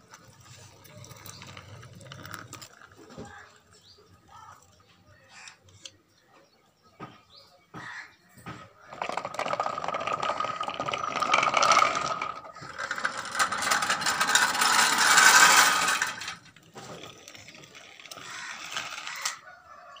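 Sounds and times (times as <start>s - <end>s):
toy tractors rattling on concrete: 0.0s - 6.0s, 7.8s - 20.0s.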